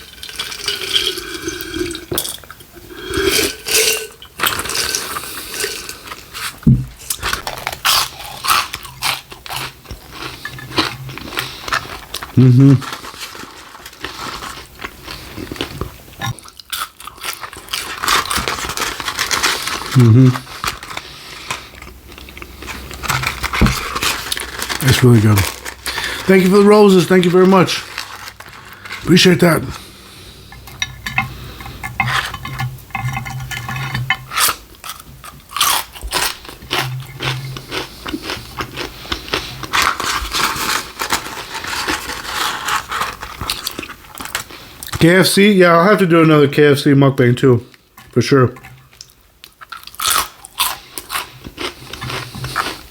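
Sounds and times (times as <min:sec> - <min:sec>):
crunchy food being chewed: 0:03.2 - 0:30.6, 0:33.8 - 0:45.0, 0:48.8 - 0:52.9.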